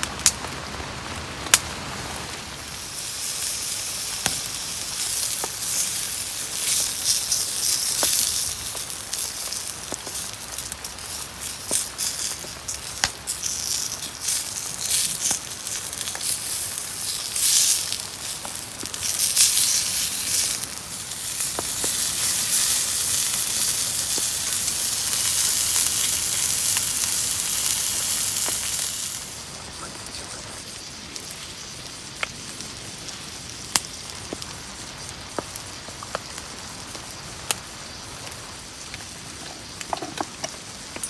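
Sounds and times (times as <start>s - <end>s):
food sizzling in a pan: 0.0s - 41.0s
wood fire crackling: 0.0s - 41.0s.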